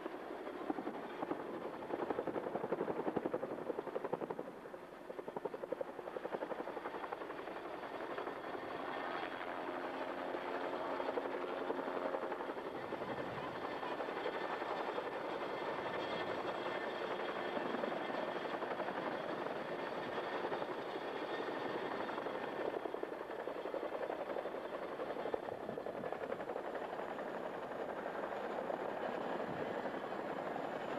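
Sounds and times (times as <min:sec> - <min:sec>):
helicopter rotor and engine: 0:00.0 - 0:30.9.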